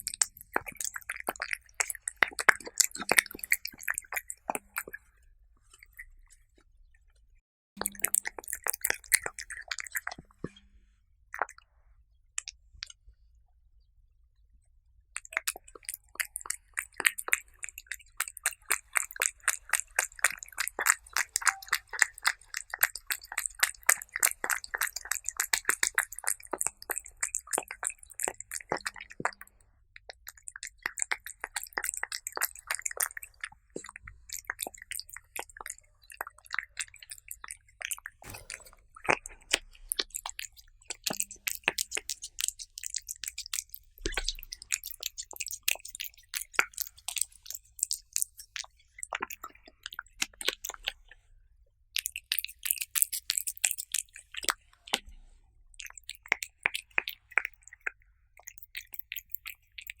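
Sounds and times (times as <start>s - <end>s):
cats chewing: 0.0s - 6.2s, 7.8s - 10.5s, 15.3s - 51.1s, 52.0s - 55.1s, 55.8s - 60.0s.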